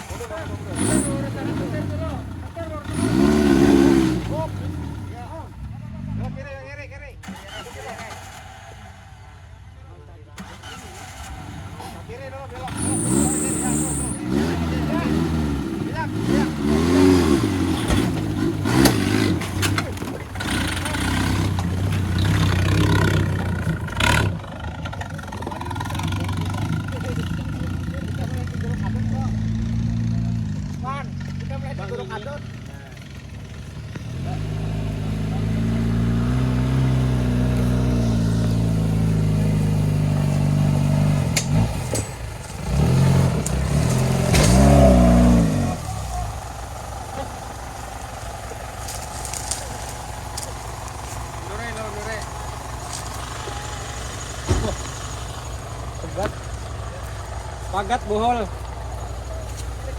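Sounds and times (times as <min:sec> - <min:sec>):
engine running and revving: 0:00.0 - 0:06.6, 0:10.4 - 0:59.9.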